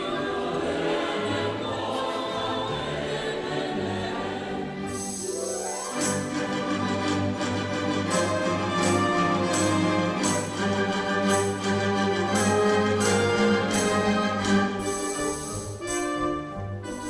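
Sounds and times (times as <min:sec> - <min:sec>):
orchestral music with brass: 0:00.0 - 0:17.0.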